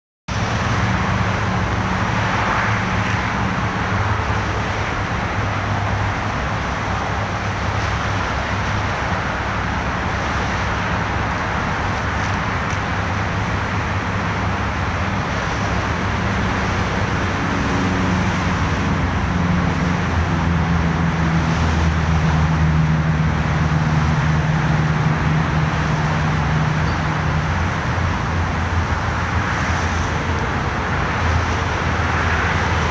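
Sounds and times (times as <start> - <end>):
engines humming: 0.3 - 32.9
tyres hissing on road: 0.3 - 32.9.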